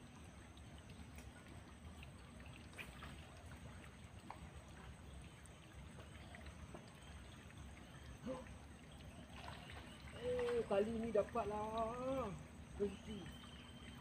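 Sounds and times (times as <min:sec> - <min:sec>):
low steady rumble: 0:00.0 - 0:14.0
water trickling: 0:00.0 - 0:14.0.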